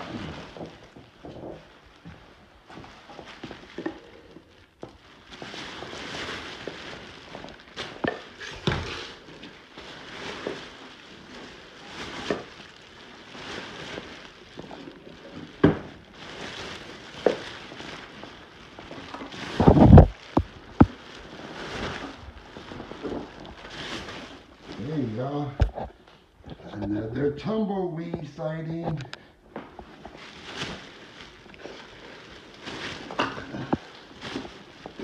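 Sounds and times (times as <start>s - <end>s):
objects clattering: 0.0s - 27.0s, 28.9s - 35.0s
clutter being handled: 0.0s - 35.0s.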